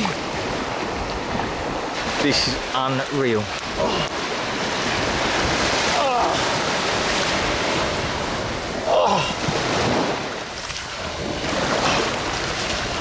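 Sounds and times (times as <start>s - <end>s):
surf washing at water's edge: 0.0s - 13.0s
wind buffeting the microphone: 0.0s - 13.0s.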